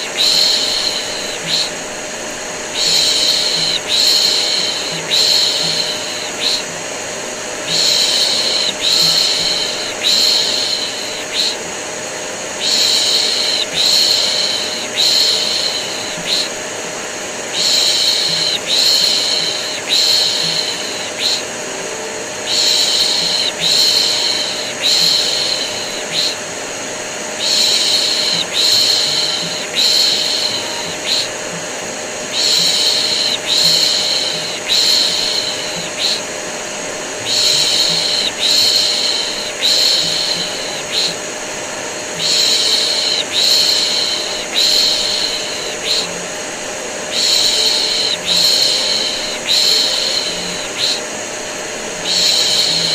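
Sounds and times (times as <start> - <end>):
vacuum cleaner drone: 0.0 - 52.9.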